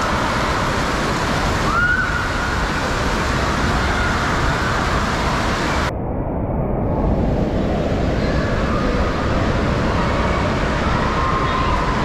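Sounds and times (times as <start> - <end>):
splashing water echoing in a hall: 0.0 - 12.0.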